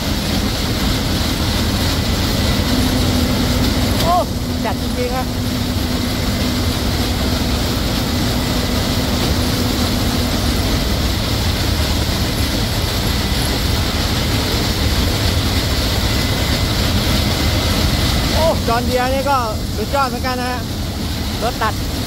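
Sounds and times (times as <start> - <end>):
harvester machinery drone: 0.0 - 22.0.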